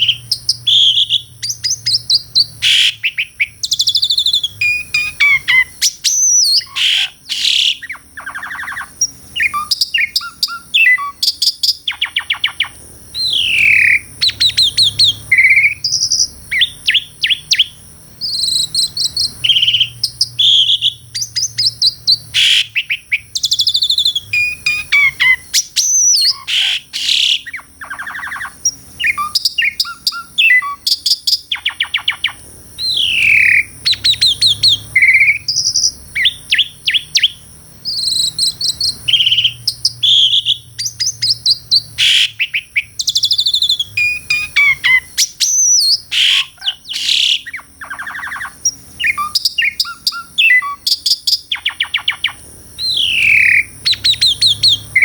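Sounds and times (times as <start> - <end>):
starling singing: 0.0 - 55.0.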